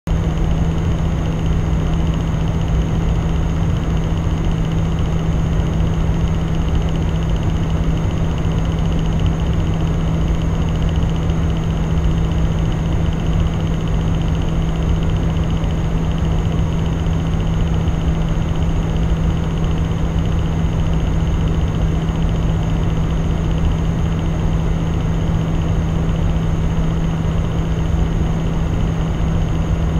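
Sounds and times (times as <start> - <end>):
power supply fan humming: 0.1 - 29.9.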